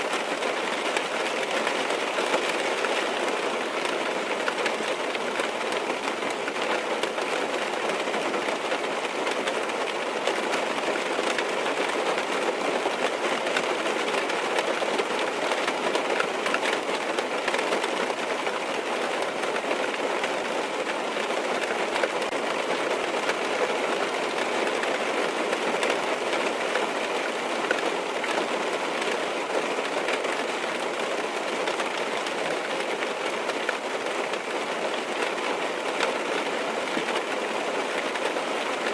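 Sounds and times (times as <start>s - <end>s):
rain drumming on car roof: 0.0s - 38.9s.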